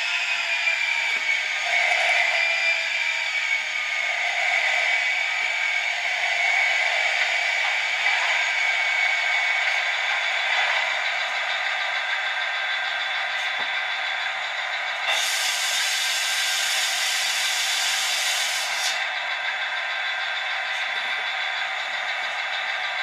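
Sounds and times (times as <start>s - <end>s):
engine idling through small speaker: 0.0s - 23.0s.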